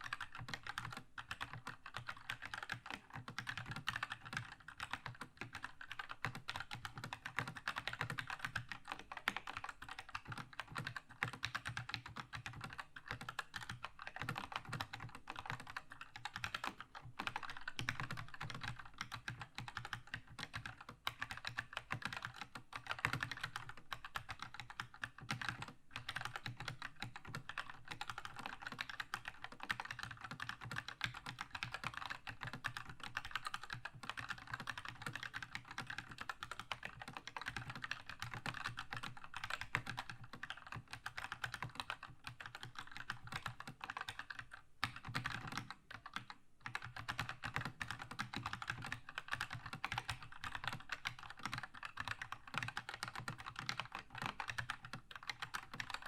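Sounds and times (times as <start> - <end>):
fast mechanical keyboard typing: 0.0 - 56.0.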